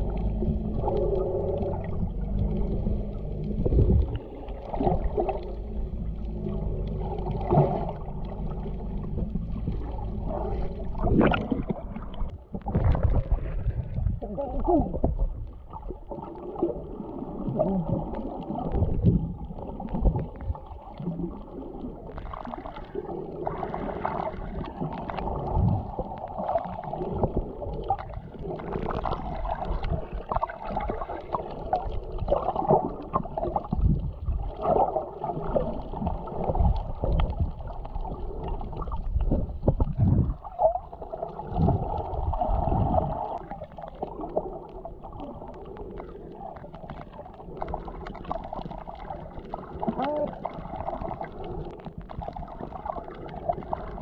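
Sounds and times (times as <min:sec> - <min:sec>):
underwater rumbling and gurgling: 0:00.0 - 0:54.0.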